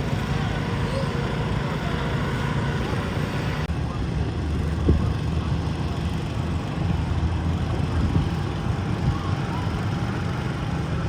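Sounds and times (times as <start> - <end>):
garden tractor engine running: 0.0 - 11.0.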